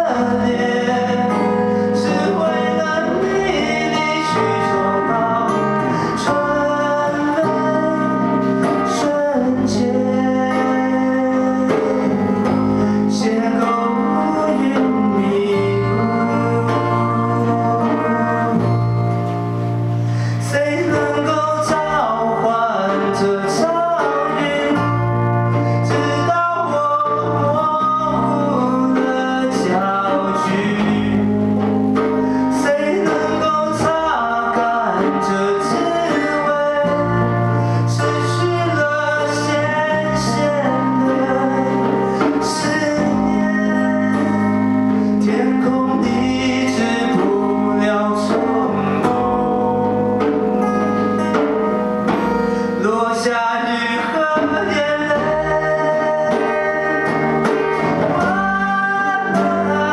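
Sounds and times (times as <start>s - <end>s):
man singing into microphone: 0.0s - 19.5s, 20.1s - 59.9s
instrumental accompaniment: 0.0s - 59.9s.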